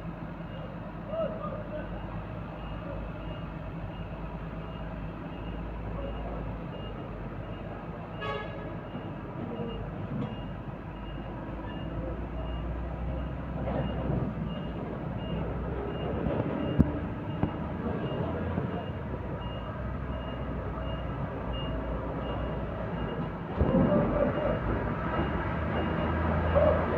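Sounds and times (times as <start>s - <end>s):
heavy vehicle engine running: 0.0s - 26.9s.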